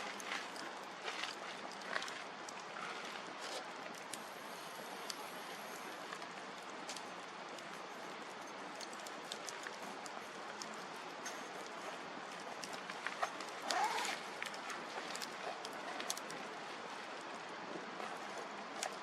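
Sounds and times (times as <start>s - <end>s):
campfire hissing and crackling: 0.0s - 19.0s.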